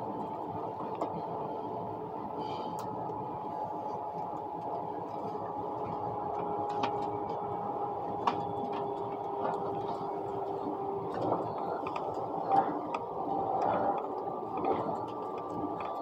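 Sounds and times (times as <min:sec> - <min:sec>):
steady hum: 0:00.0 - 0:16.0
train rolling rumble: 0:00.0 - 0:16.0.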